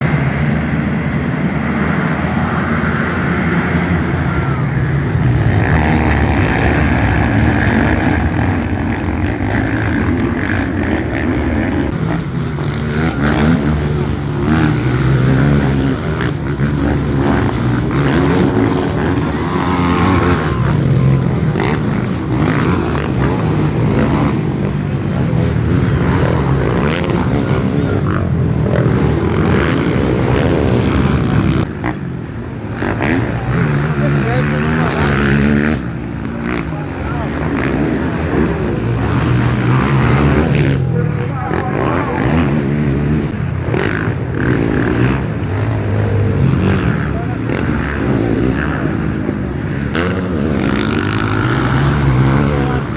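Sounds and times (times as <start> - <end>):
quad engines revving: 0.0 - 52.9.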